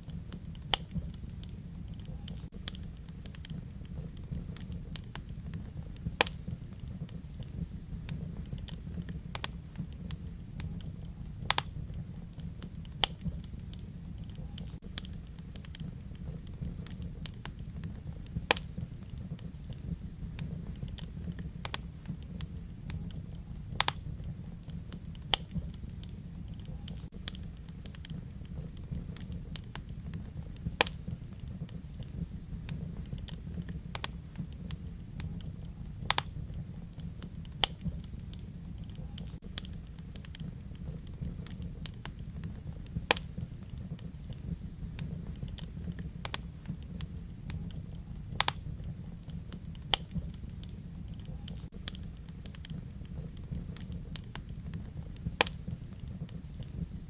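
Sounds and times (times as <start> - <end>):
fire crackles and pops: 0.0 - 57.0
wood fire rumbling: 0.0 - 57.0.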